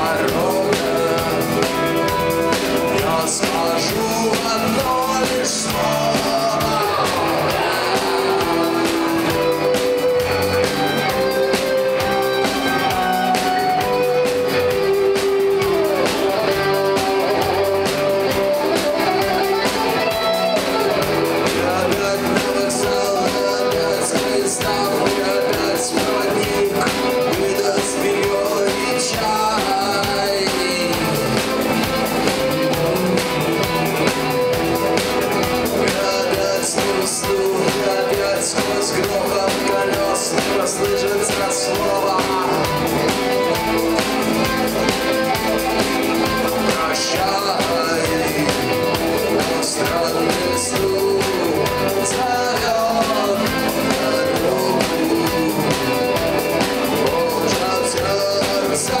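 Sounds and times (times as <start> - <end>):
drum kit: 0.0 - 59.0
guitars: 0.0 - 59.0.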